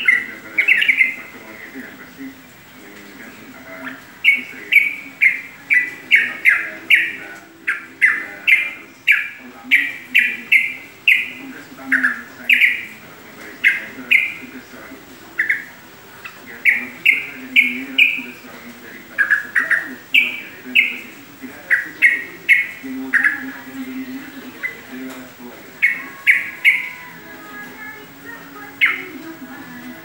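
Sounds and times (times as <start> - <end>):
bird chirping loudly: 0.0 - 1.6, 3.7 - 14.6, 15.3 - 29.4.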